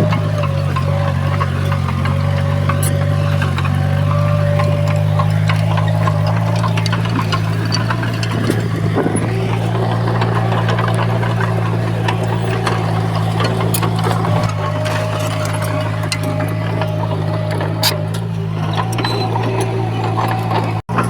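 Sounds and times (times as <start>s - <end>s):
clicks and rattles: 0.0s - 21.0s
heavy diesel engine running: 0.0s - 21.0s.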